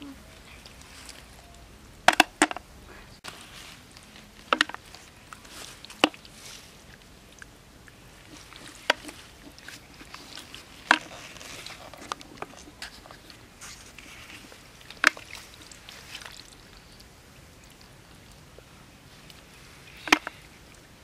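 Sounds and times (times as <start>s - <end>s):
hands squelching in wet mud: 3.2s - 21.0s.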